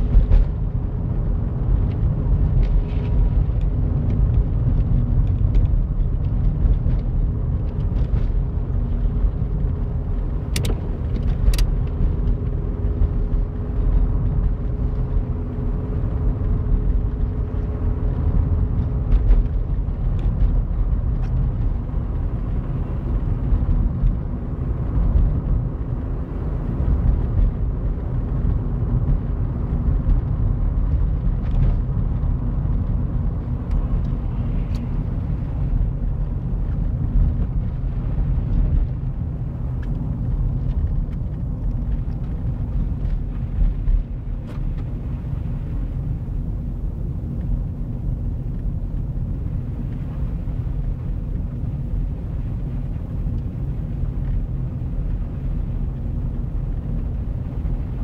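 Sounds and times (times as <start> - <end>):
car rumble on wet road: 0.0 - 58.0
faint engine hum: 0.0 - 58.0.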